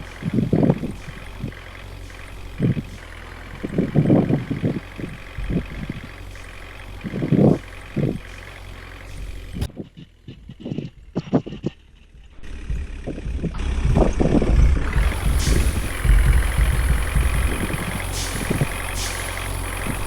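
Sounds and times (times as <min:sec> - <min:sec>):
short low thumps: 0:00.0 - 0:20.0
truck engine idling: 0:00.0 - 0:20.0.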